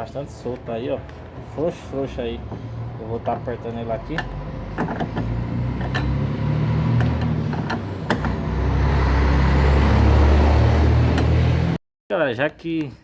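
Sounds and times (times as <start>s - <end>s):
vehicle engine rumble: 0.0s - 11.8s.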